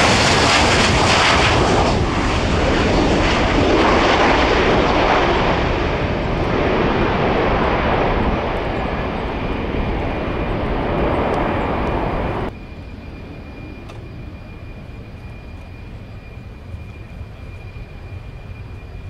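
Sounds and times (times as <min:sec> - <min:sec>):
distant jet rumble: 0:00.0 - 0:19.0
jet engines roaring: 0:00.0 - 0:19.0.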